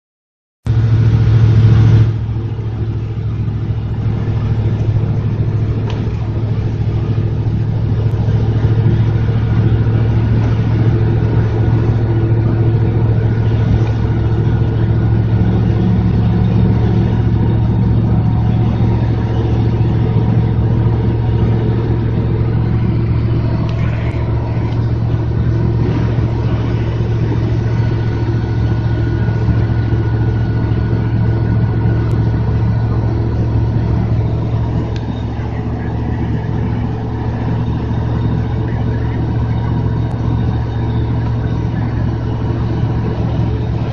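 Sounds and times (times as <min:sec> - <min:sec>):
truck engine droning: 0:00.6 - 0:43.9
tyre and road noise: 0:00.6 - 0:43.9.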